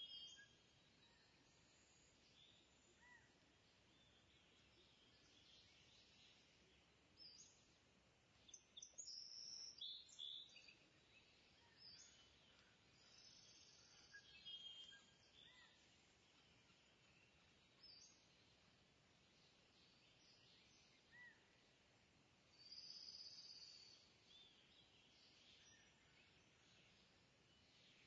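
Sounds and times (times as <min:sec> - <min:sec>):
faint bird chirps: 0:00.0 - 0:07.8, 0:08.4 - 0:21.7, 0:22.5 - 0:28.0
low steady hiss: 0:00.0 - 0:28.0.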